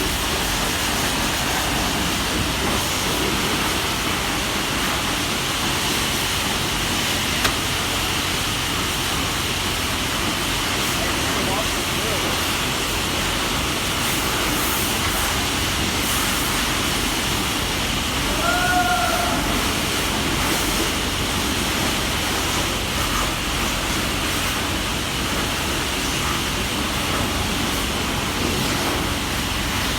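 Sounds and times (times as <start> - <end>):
water spraying: 0.0 - 29.9.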